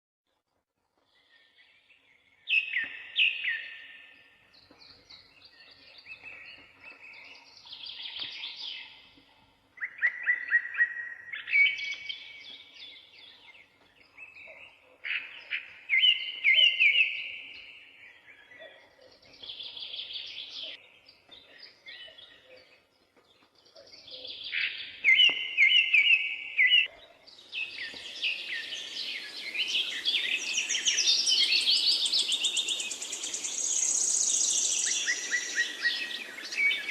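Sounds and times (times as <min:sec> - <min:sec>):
birds singing: 0:01.1 - 0:36.9.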